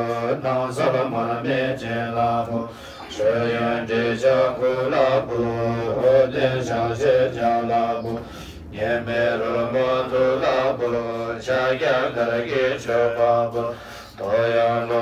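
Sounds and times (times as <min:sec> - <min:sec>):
low drone: 0:00.0 - 0:15.0
voices chanting a mantra: 0:00.0 - 0:15.0.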